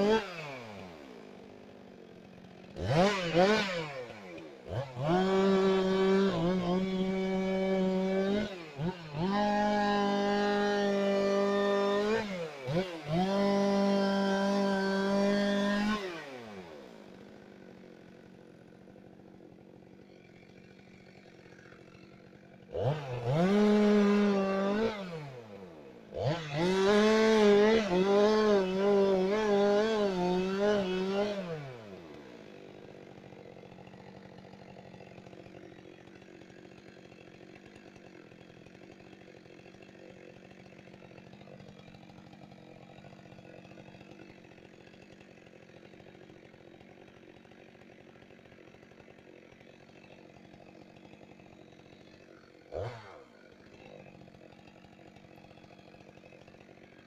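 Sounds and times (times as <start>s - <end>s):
chainsaw revving and cutting wood: 0.0s - 57.0s.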